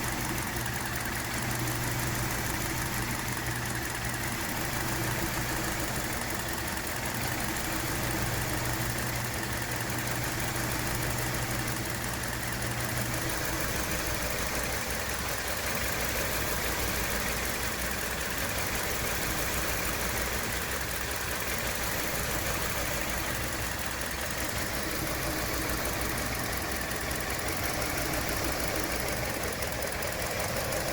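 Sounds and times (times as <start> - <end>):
engine idling roughly: 0.0 - 30.9.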